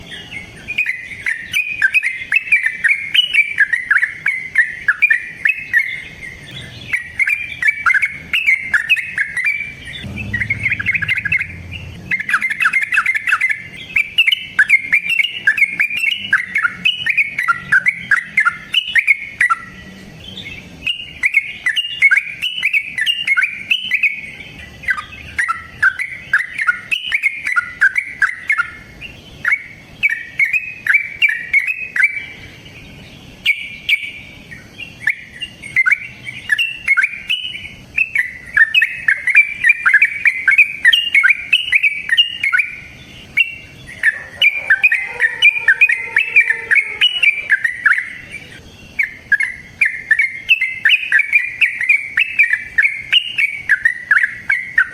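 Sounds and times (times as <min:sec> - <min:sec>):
bird singing rolling chattering song: 0:00.0 - 0:54.9.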